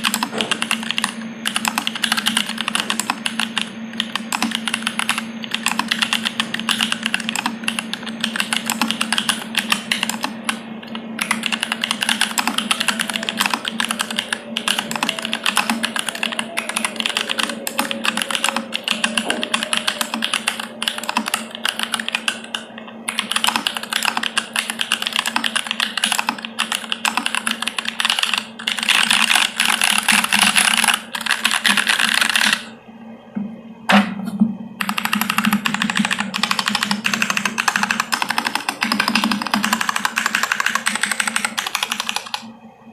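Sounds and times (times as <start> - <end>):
fast typing on mechanical keyboard: 0.0 - 10.6, 11.2 - 32.7, 34.8 - 42.5
low steady hum: 0.0 - 42.9.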